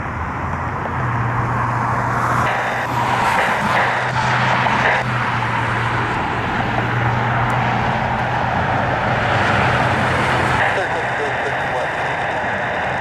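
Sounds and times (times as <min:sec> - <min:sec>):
constant low hum: 0:00.0 - 0:13.0
jet engine noise: 0:00.0 - 0:13.0.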